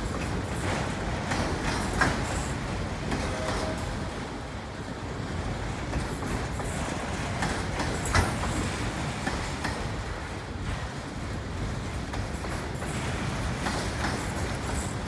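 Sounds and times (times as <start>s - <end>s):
freight cars rumbling on rail: 0.0s - 15.0s.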